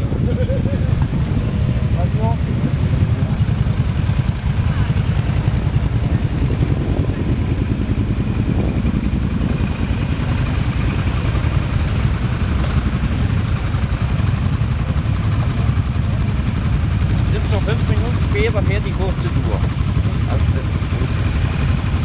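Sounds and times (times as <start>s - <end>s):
quad bikes idling: 0.0s - 22.0s.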